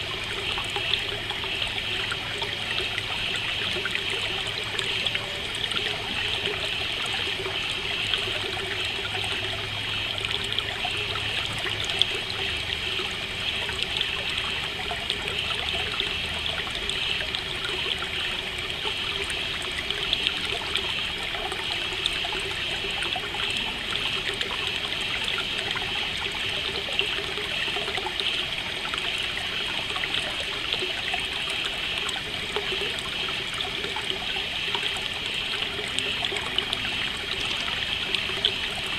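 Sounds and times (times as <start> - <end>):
stream trickling: 0.0 - 38.9.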